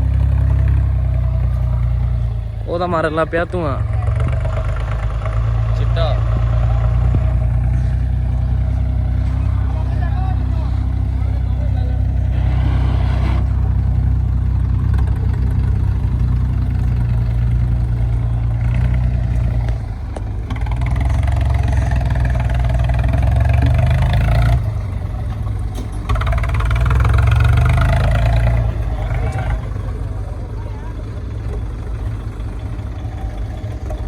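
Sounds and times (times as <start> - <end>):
tractor diesel engine revving: 0.0 - 34.0.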